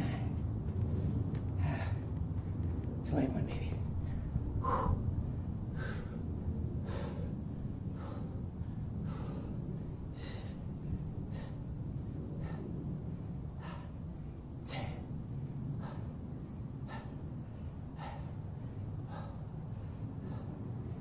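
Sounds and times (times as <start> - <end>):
man breathing hard: 0.0 - 2.2, 3.9 - 21.0
low rumble: 0.0 - 21.0.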